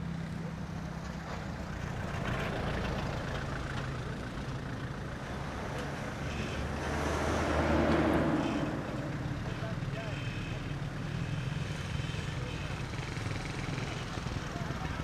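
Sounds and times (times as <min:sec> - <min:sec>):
road traffic noise: 0:00.0 - 0:15.0
vehicle engine running: 0:00.0 - 0:15.0.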